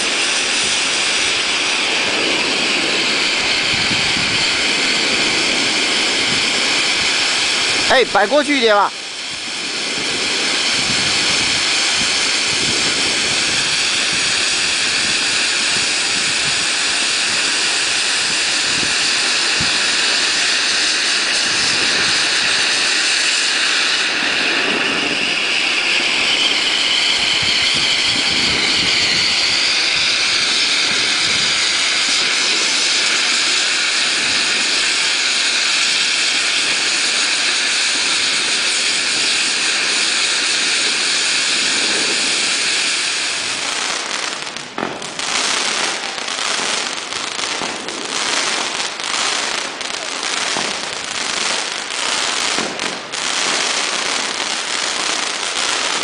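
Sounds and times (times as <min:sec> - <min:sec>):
fireworks spraying sparks hissing: 0:00.0 - 0:56.0.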